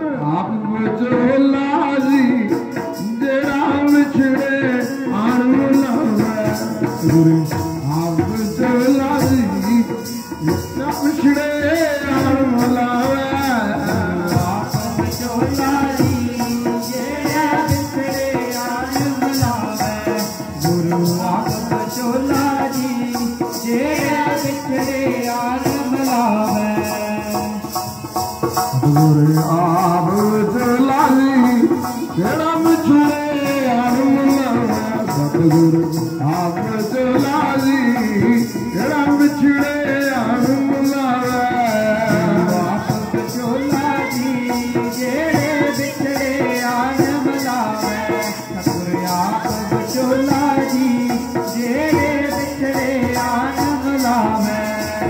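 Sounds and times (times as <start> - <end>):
harmonium: 0.0 - 55.0
man singing a chant: 0.0 - 55.0
rattling hand percussion: 0.2 - 55.0.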